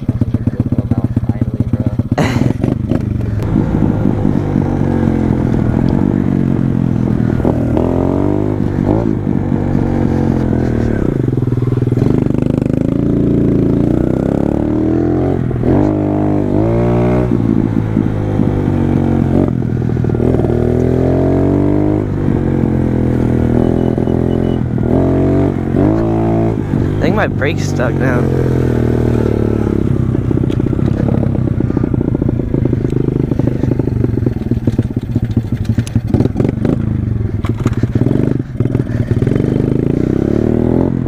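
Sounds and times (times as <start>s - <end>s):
pit bike engine revving: 0.0s - 41.0s.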